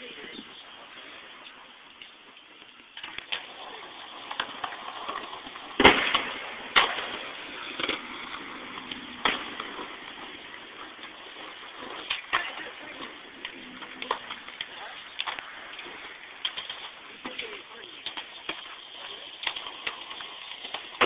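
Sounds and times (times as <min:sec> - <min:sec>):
skateboard clack: 0:00.0 - 0:21.0
skateboard wheels rolling: 0:00.0 - 0:21.0.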